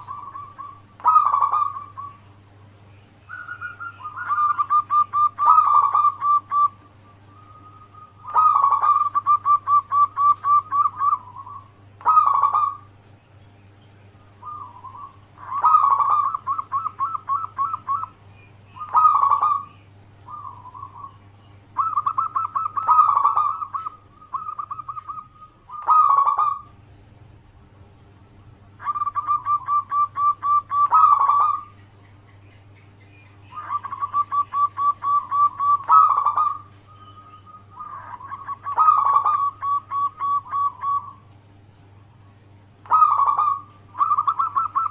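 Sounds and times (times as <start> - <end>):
dove cooing: 0.0 - 2.6, 3.2 - 13.0, 14.3 - 26.7, 28.7 - 41.3, 42.8 - 44.9.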